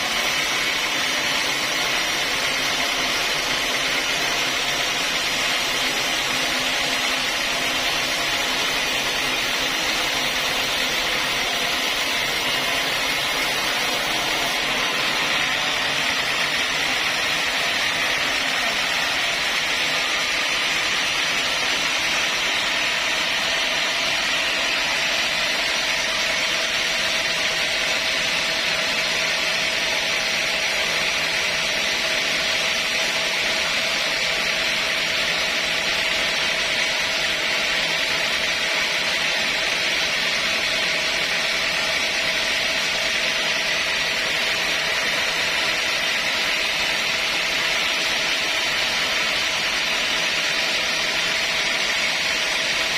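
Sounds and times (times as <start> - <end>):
sawmill saw cutting log: 0.0 - 52.9.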